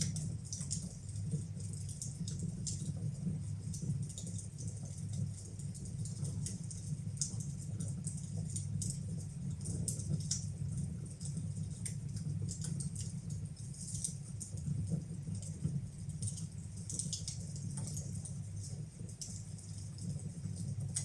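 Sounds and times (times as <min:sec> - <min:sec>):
low fire rumble: 0:00.0 - 0:21.0
wood fire crackling and popping: 0:00.0 - 0:21.0.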